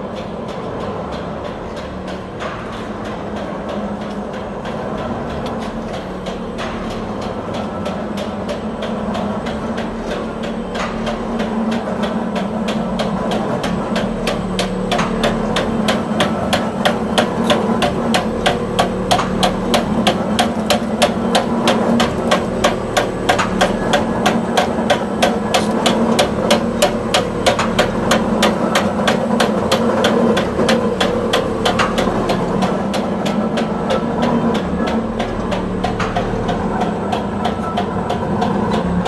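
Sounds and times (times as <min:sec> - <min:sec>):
machine striking sharp knocks: 0:00.0 - 0:39.0
motor hum: 0:00.0 - 0:39.0.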